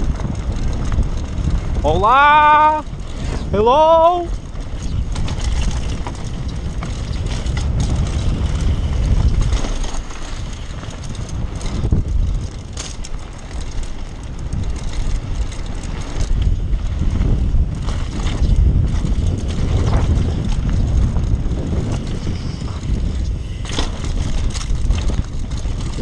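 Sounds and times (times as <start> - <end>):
bike frame and chain rattling: 0.0 - 26.0
wind buffeting microphone: 0.0 - 26.0.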